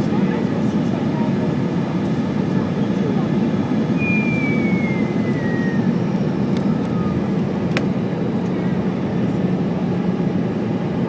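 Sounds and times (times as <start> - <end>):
airliner cabin engine hum: 0.0 - 11.0.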